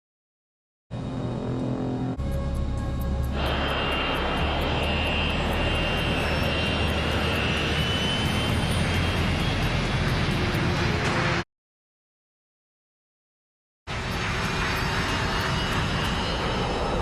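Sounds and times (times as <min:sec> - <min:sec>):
jet engines running: 0:00.9 - 0:11.4, 0:13.9 - 0:17.0.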